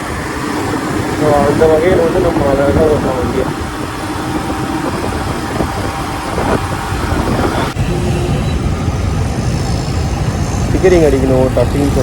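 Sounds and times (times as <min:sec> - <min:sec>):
motorcycle engine rumble: 0:00.0 - 0:12.0
traffic noise: 0:00.0 - 0:12.0
wind: 0:00.0 - 0:12.0.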